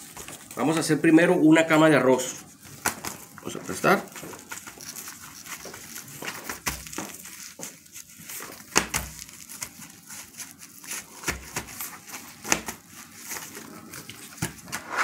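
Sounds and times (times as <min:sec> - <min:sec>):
gloves and bamboo mat rustling: 0:00.0 - 0:15.0.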